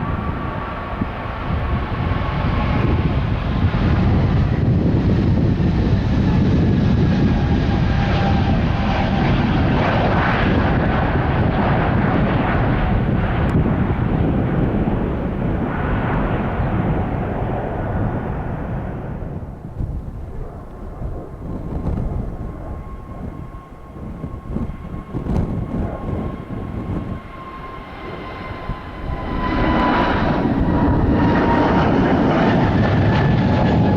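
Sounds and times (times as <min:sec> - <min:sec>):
faint jet whine: 0:00.0 - 0:33.9
jet engine roar: 0:00.0 - 0:33.9.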